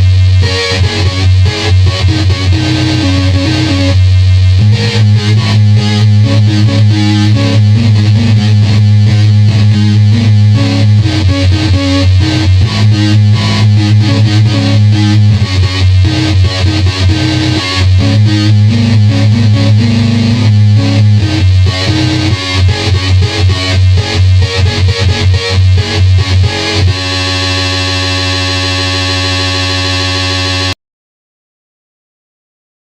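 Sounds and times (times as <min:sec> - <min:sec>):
loud buzzing low drone: 0:00.0 - 0:30.8.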